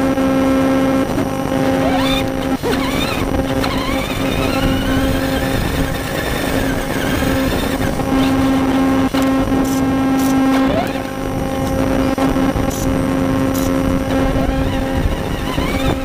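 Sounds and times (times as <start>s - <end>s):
electric motor whine: 0.0s - 16.0s
tyre and wind noise: 0.7s - 16.0s.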